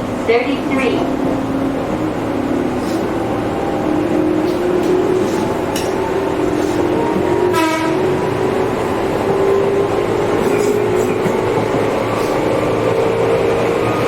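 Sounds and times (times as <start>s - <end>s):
wheel and rail noise: 0.0s - 14.0s
electric train motors whining: 1.2s - 14.0s.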